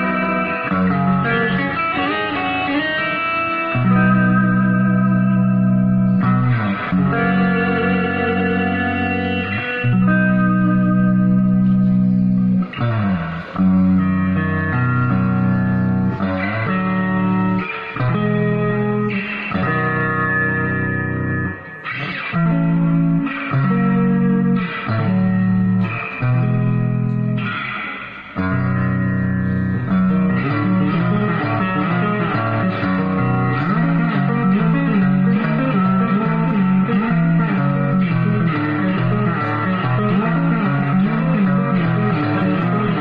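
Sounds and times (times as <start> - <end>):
electric guitar chords and riffs: 0.0 - 43.0.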